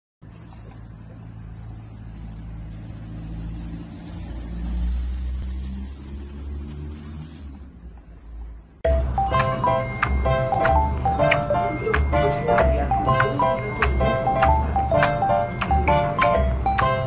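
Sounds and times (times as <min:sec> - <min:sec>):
vehicle engine humming: 0:00.2 - 0:17.0.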